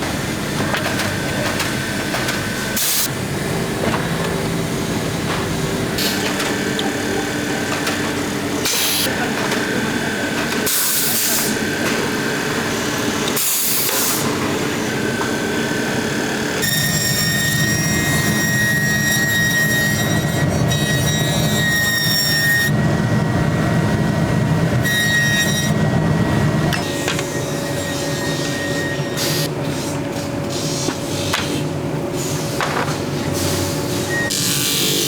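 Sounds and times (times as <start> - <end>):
factory machinery hum and whine: 0.0 - 35.0.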